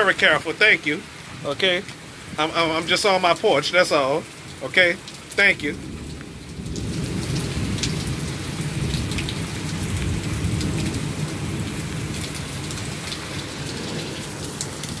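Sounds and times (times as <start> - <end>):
heavy rain: 0.0 - 15.0
raindrops ticking on surfaces: 0.0 - 15.0.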